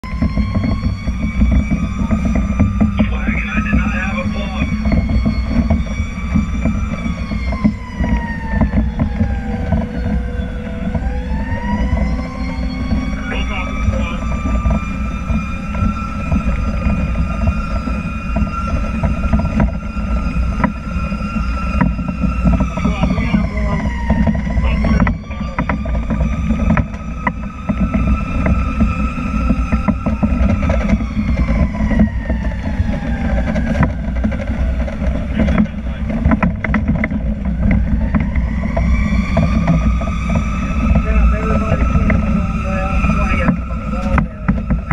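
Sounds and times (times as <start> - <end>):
cab rattles and clicks: 0.0 - 44.9
fire truck siren wailing: 0.0 - 44.9
truck and road rumble: 0.0 - 44.9.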